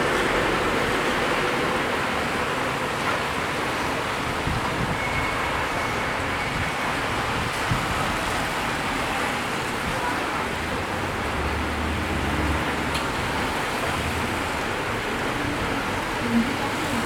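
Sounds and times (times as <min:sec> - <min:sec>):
rain downpour: 0:00.0 - 0:17.0
traffic on wet road: 0:00.0 - 0:17.0.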